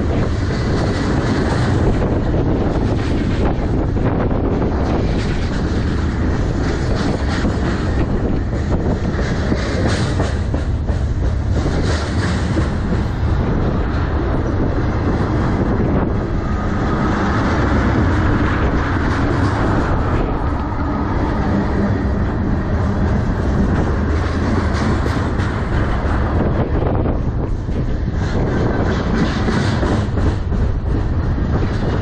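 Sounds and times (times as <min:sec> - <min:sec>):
clickety-clack over rail joints: 0:00.0 - 0:32.0
train wheels rumbling on rails: 0:00.0 - 0:32.0.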